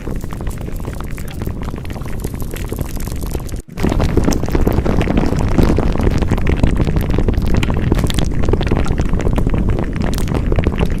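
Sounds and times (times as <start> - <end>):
crackling and rustling: 0.0 - 11.0.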